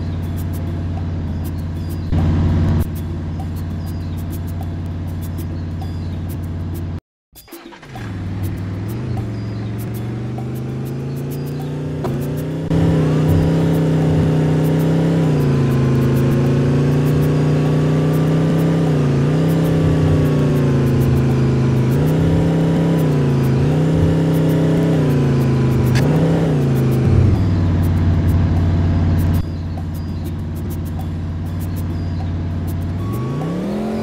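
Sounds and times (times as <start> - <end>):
bus engine under load: 0.0 - 34.0.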